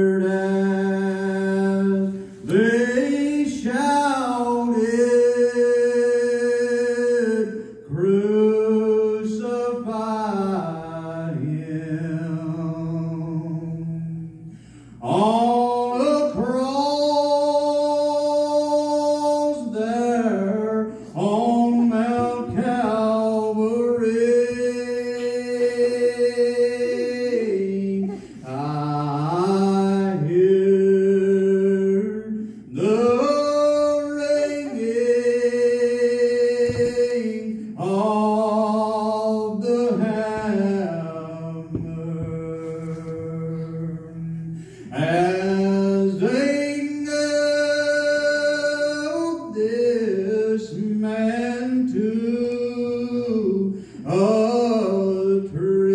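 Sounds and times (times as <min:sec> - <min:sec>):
man singing a cappella: 0:00.0 - 0:55.9.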